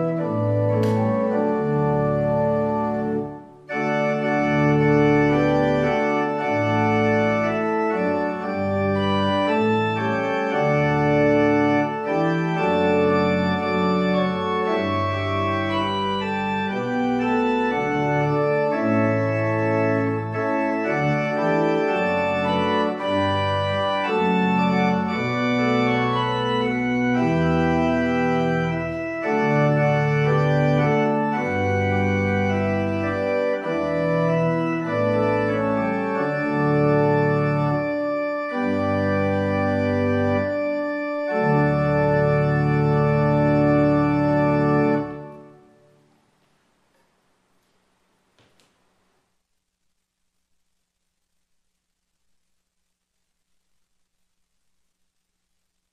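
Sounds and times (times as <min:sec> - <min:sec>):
organ playing sustained chords: 0:00.0 - 0:46.1.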